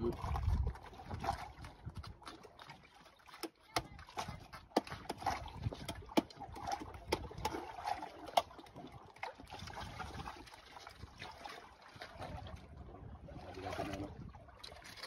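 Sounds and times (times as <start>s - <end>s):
wet eating sounds: 0.0s - 12.6s.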